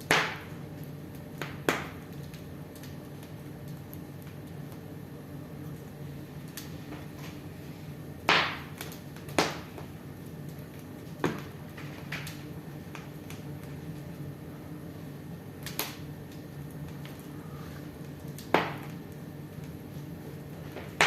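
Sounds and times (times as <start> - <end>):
steady low hum: 0.0 - 21.0
wood fire crackling: 0.0 - 21.0.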